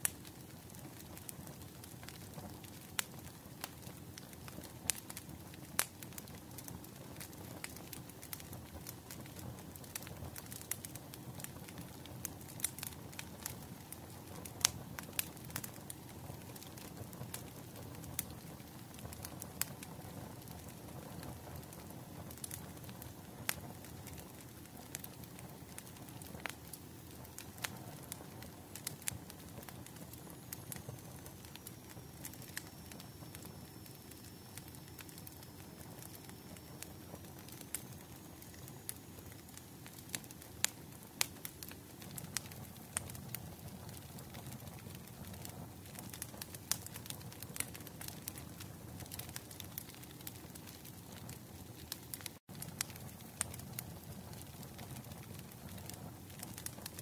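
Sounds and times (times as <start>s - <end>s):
firewood crackling: 0.0s - 57.0s
low rush of fire: 0.0s - 57.0s.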